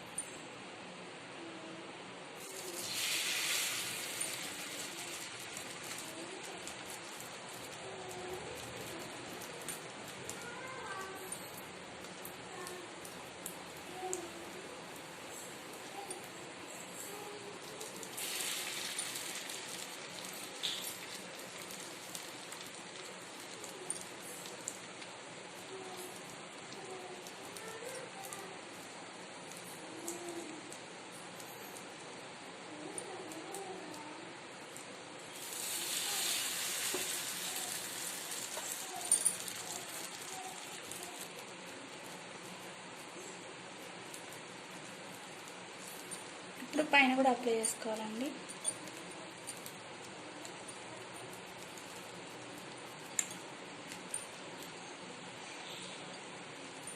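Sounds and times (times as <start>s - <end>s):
bread sizzling in a pan: 2.4s - 34.4s, 35.1s - 54.6s.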